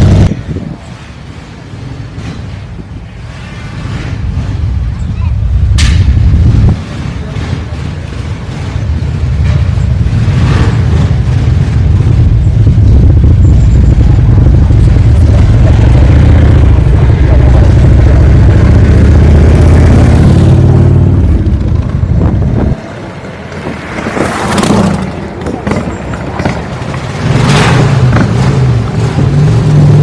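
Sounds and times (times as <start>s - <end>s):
motorcycle exhaust rumble: 0.0s - 30.0s.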